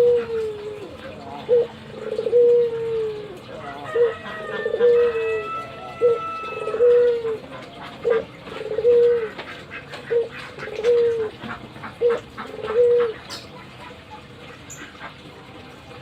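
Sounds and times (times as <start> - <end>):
dove cooing: 0.0 - 15.7.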